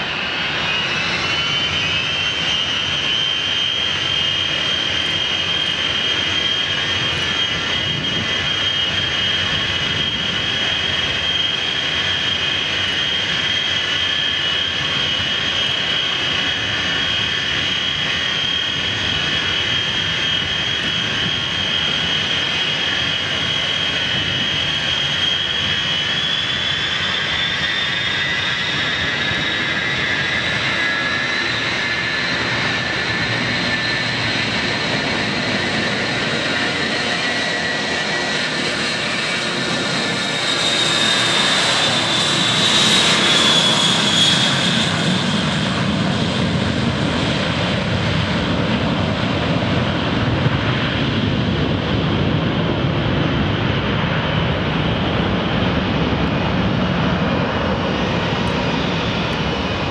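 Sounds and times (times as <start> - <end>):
deep jet rumble: 0.0 - 59.9
jet engines high whine: 0.0 - 59.9.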